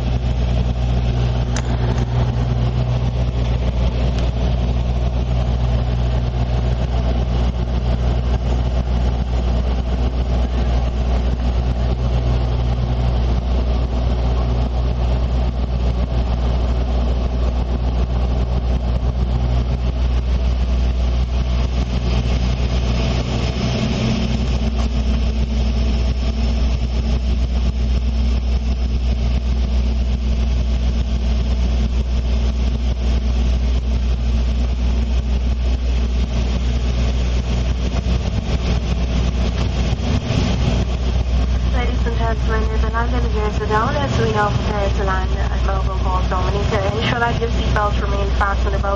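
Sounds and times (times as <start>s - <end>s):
airliner engine drone: 0.0s - 48.9s.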